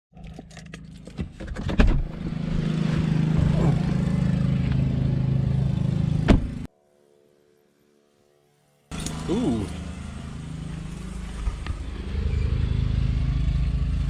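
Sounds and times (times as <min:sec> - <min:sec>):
vehicle engine running: 0:00.2 - 0:06.7, 0:08.9 - 0:14.0.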